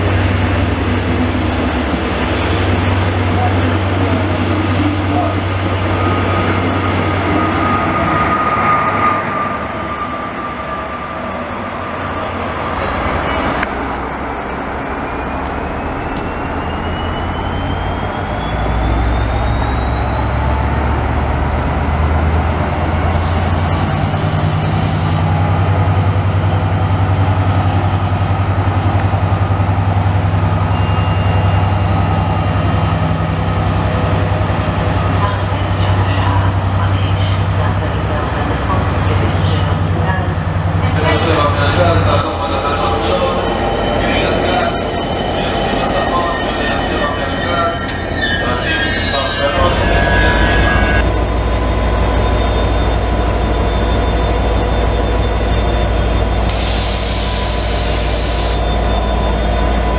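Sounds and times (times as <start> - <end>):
locomotive engine humming: 0.0 - 59.9
passenger train running past: 0.0 - 59.9.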